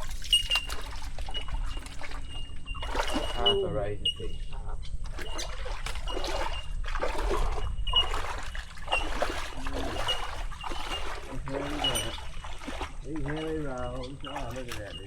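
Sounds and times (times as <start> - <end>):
footsteps splashing in shallow water: 0.0 - 3.6, 5.0 - 15.0
birds calling with high ringing notes: 0.1 - 5.5, 7.6 - 15.0.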